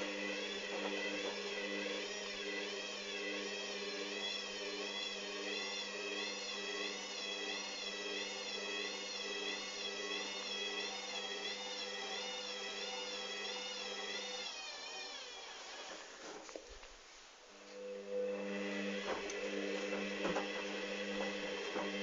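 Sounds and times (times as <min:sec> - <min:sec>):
washing machine spinning: 0:00.0 - 0:16.2, 0:18.0 - 0:22.0
motor hum with wavering whine: 0:00.0 - 0:16.4, 0:17.5 - 0:22.0.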